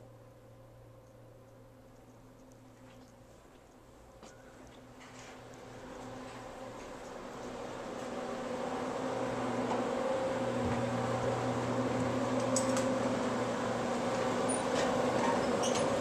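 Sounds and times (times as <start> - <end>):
projector fans humming: 0.0 - 16.0.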